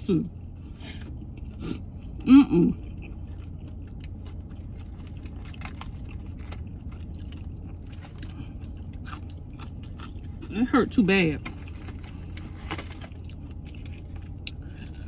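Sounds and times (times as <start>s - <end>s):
air conditioner hum: 0.0s - 15.0s
crunchy chewing: 0.9s - 10.6s, 11.4s - 15.0s.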